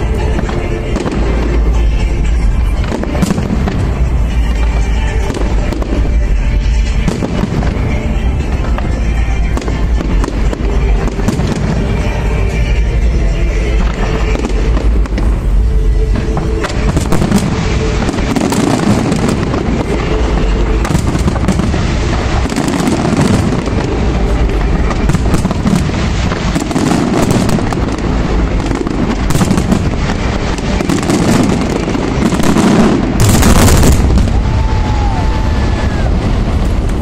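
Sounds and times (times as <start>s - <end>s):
fireworks booming and crackling: 0.0s - 37.0s.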